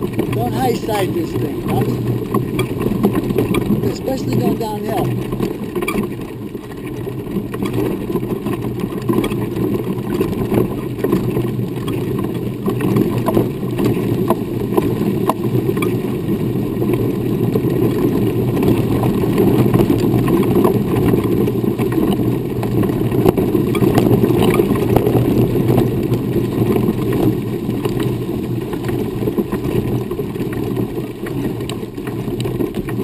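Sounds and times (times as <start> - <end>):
wheelchair wheels rolling on dirt: 0.0 - 33.0.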